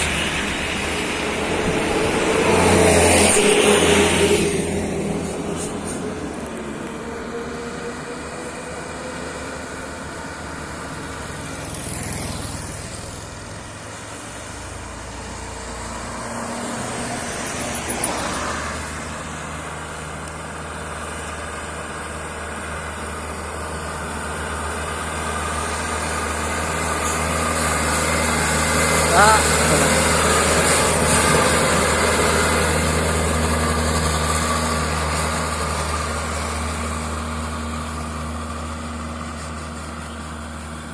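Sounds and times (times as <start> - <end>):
truck engine running low: 0.0 - 40.9
vehicles passing: 0.0 - 40.9.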